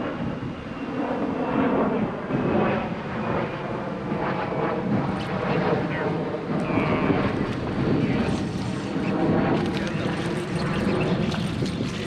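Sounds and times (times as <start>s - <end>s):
engine drone: 2.0s - 12.0s.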